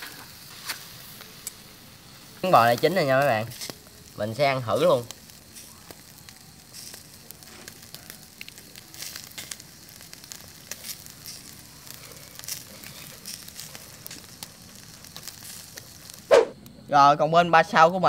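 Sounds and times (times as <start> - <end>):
crackles and pops: 0.0 - 18.0
meat sizzling on grill: 0.0 - 18.0.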